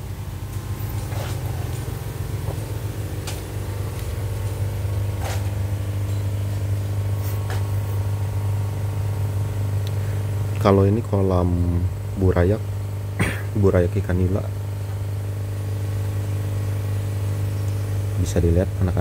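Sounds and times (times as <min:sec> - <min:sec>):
air pump electric hum: 0:00.0 - 0:19.0.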